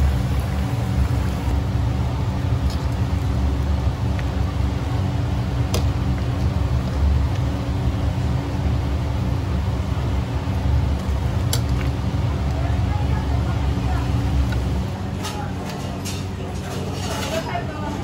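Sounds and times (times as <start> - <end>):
low rumble of kitchen machinery: 0.0 - 18.0.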